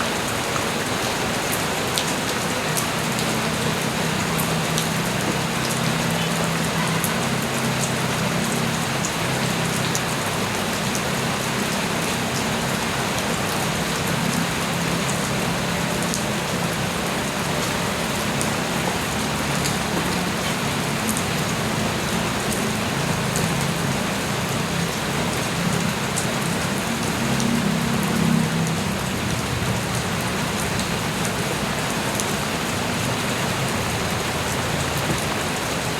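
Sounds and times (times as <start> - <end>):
low drumming of rain: 0.0 - 35.9
sharp raindrop ticks: 1.4 - 35.8.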